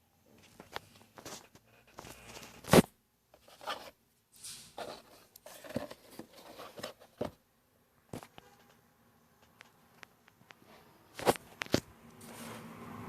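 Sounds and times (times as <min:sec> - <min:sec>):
handling rustling and scraping: 0:00.2 - 0:07.4, 0:08.1 - 0:12.9.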